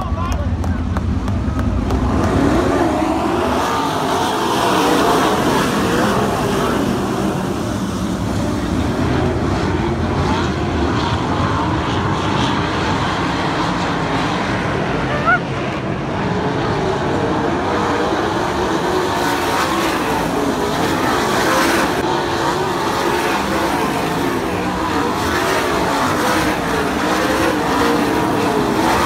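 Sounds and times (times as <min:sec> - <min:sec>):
race car engines revving: 0:00.0 - 0:29.0.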